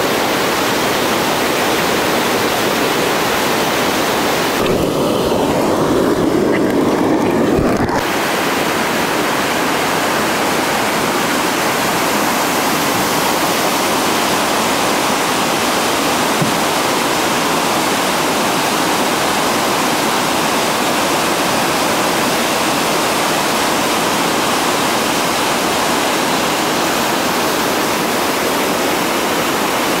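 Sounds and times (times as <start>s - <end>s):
whitewater rapids rushing: 0.0s - 30.0s.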